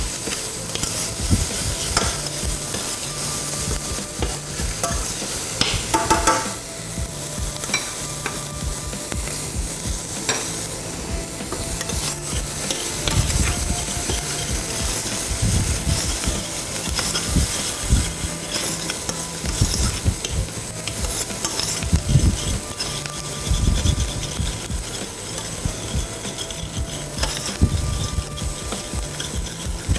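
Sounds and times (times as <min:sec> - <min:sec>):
onions sizzling in butter: 0:00.0 - 0:29.9
spoon knocking in pan: 0:00.0 - 0:29.9.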